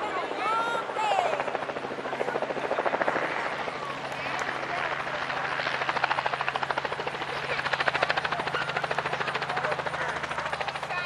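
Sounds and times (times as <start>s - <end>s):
helicopter rotor blades chopping: 0.0s - 11.0s.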